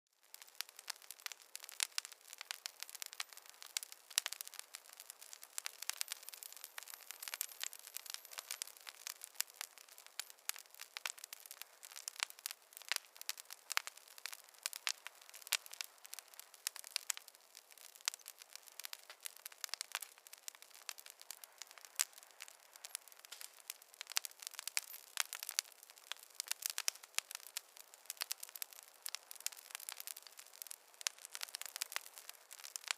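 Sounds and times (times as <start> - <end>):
wood fire crackling: 0.2 - 32.9.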